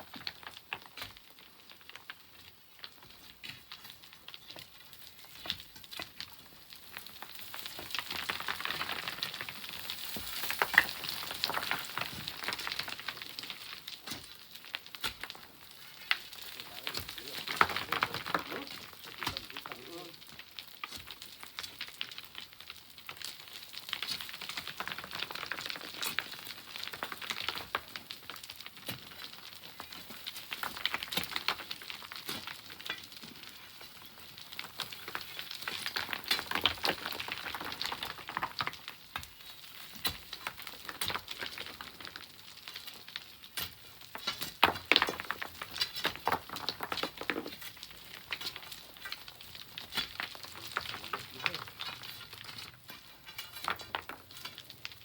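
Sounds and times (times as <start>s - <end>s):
sand and pebbles trickling: 0.0s - 55.0s.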